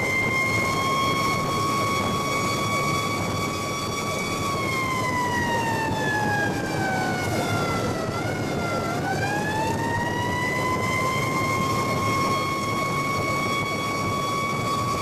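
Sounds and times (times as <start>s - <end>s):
engine and road noise: 0.0s - 15.0s
fire truck siren wailing: 0.0s - 15.0s.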